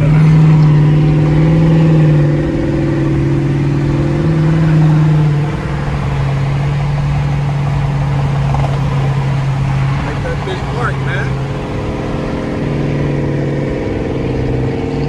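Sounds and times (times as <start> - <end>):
car engine droning at speed: 0.0 - 15.0.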